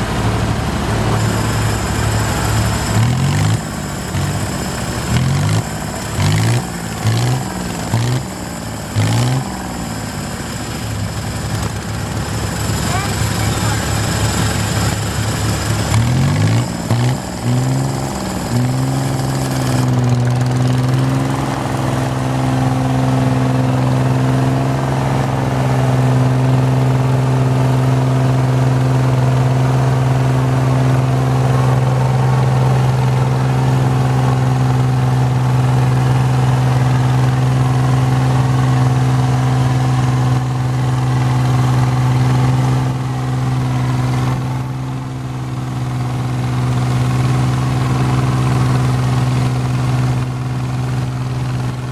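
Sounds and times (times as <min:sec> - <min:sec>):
garden tractor engine: 0:00.0 - 0:51.9.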